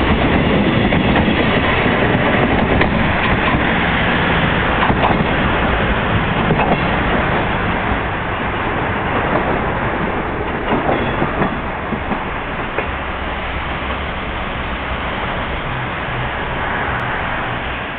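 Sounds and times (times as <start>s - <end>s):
train running noise: 0.0s - 17.9s.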